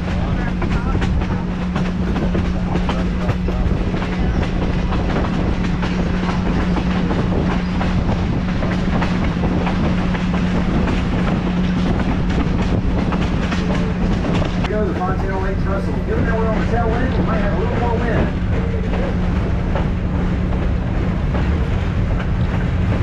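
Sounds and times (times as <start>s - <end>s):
rail clicks and clacks: 0.0s - 23.0s
train wheels rumbling: 0.0s - 23.0s.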